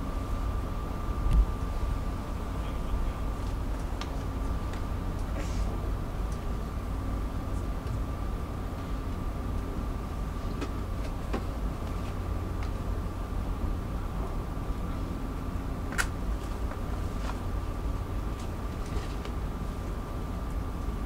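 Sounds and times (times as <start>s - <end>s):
ferry engine drone: 0.0s - 21.0s
thin steady whine: 0.0s - 21.0s.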